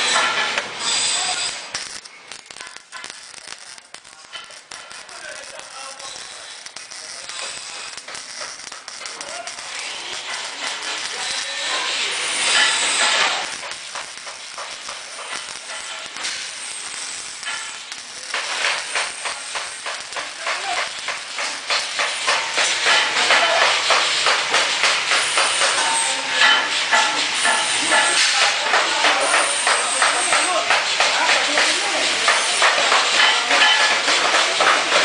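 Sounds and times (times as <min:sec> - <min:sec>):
arc welding crackling and hissing: 0:00.0 - 0:35.0.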